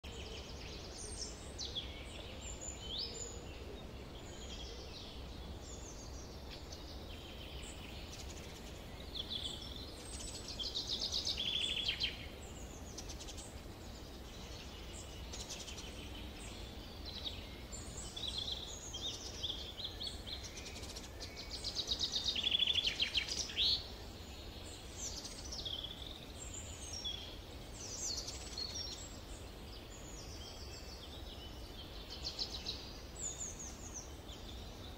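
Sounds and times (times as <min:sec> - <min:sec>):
songbirds singing and calling: 0:00.0 - 0:34.9.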